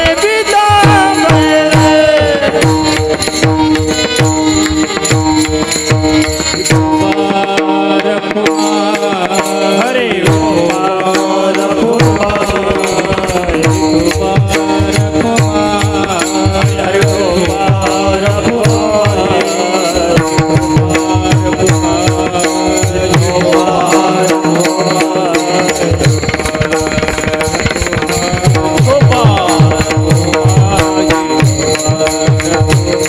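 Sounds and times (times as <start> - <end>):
devotional singing: 0.0 - 5.0, 5.6 - 33.0.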